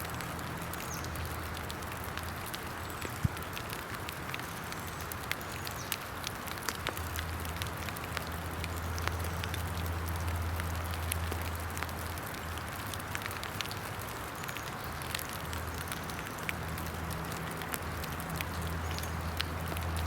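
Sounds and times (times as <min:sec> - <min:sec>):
rain hissing: 0:00.0 - 0:20.0
sharp crackles and pops: 0:00.0 - 0:20.0.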